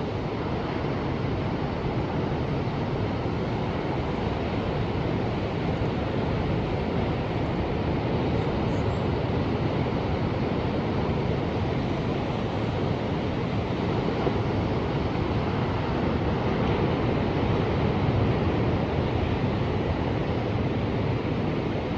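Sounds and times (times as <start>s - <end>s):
ocean surf: 0.0s - 21.9s.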